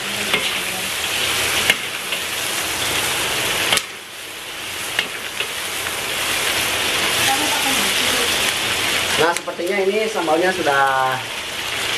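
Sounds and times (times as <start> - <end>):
chilies sizzling in hot oil: 0.0 - 11.9.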